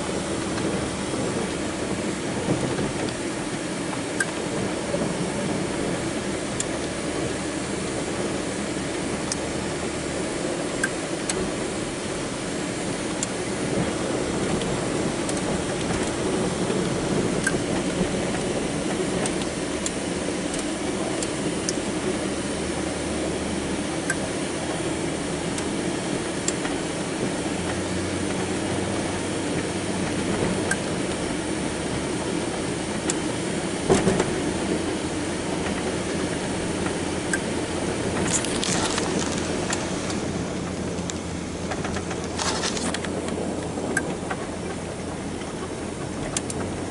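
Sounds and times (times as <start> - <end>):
truck engine rumbling: 0.0 - 46.9.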